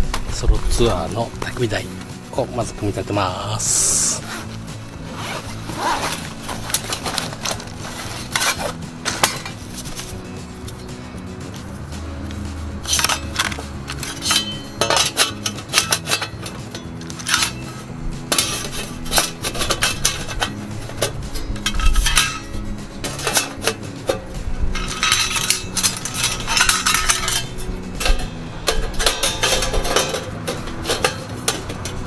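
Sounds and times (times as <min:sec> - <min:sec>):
background music: 0:00.0 - 0:32.0
metal plates clinking and clanking: 0:00.0 - 0:32.0.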